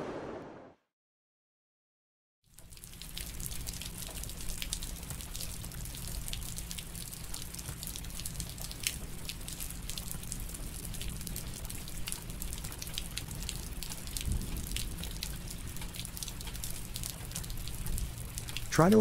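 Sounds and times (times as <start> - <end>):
rain drops ticking: 2.5 - 19.0
steady rain hiss: 2.6 - 19.0.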